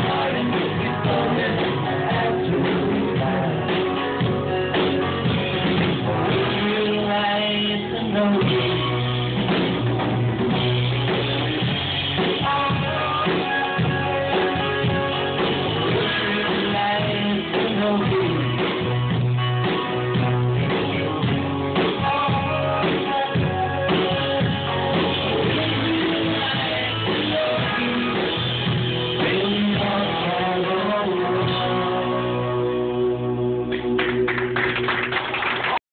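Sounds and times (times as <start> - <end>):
drum kit beat: 0.0 - 32.0
electric guitar: 0.0 - 35.8
rock band playing: 0.0 - 35.8.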